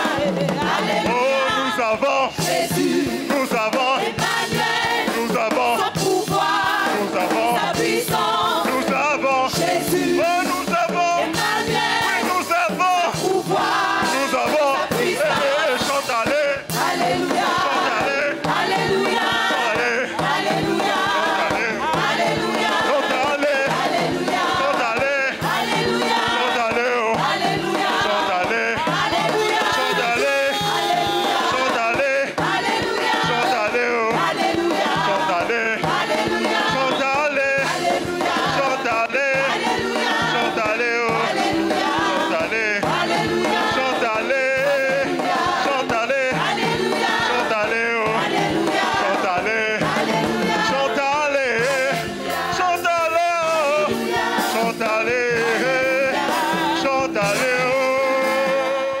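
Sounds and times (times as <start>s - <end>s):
backing music: 0.0s - 59.0s
choir singing gospel: 0.0s - 59.0s.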